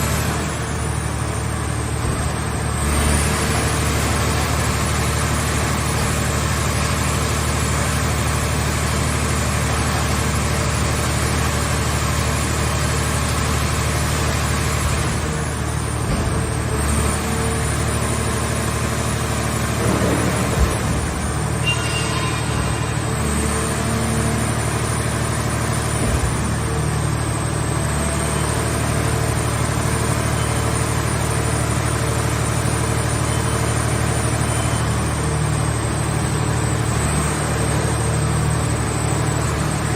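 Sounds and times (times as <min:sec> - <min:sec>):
hydraulic power unit running: 0:00.0 - 0:39.9.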